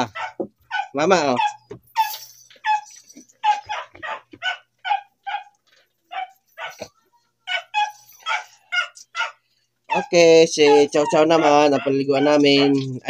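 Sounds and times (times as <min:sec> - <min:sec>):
dog yipping and barking: 0:00.0 - 0:13.0.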